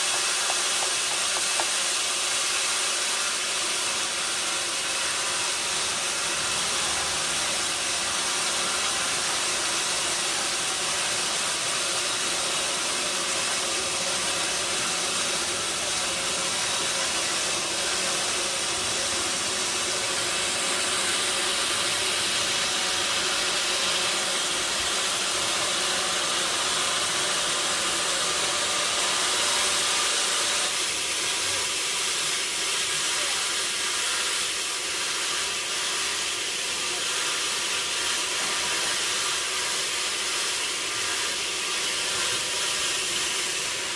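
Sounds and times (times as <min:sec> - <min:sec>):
sawmill machinery hissing: 0:00.0 - 0:43.9.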